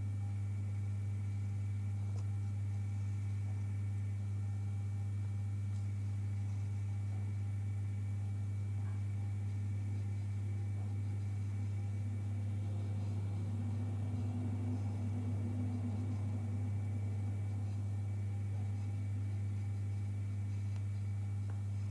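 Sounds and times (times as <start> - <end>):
aquarium equipment hum: 0.0 - 21.9.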